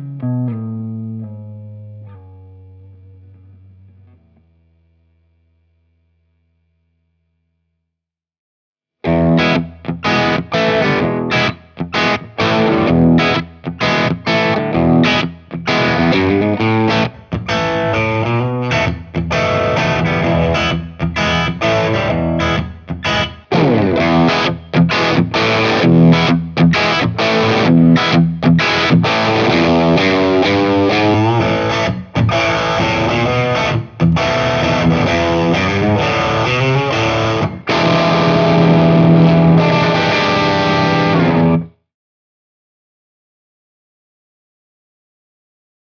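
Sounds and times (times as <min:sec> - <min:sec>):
overdriven electric guitar: 0:00.0 - 0:04.6, 0:09.0 - 0:41.8.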